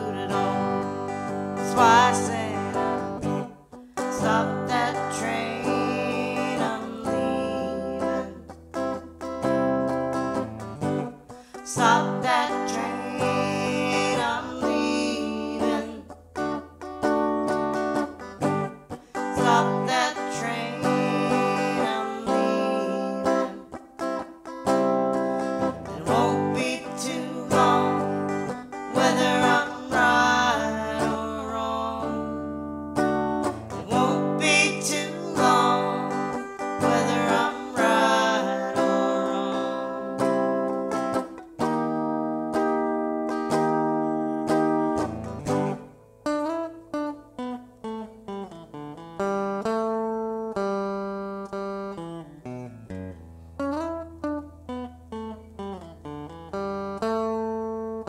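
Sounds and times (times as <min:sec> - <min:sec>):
acoustic guitar song: 0:00.0 - 0:58.0
plucked guitar notes: 0:00.0 - 0:58.0.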